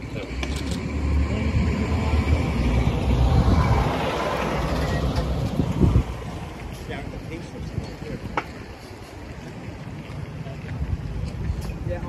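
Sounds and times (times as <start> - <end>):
fire engine rumbling: 0.0 - 12.0.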